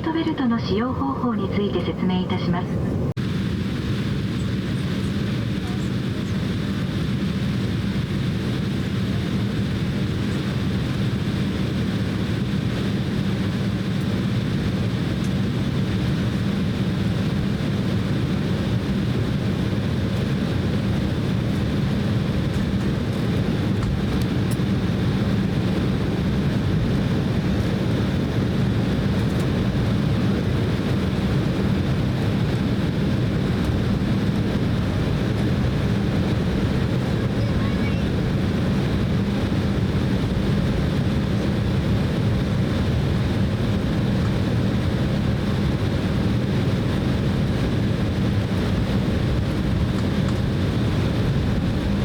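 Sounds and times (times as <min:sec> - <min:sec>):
airliner cabin hum: 0:00.0 - 0:52.0.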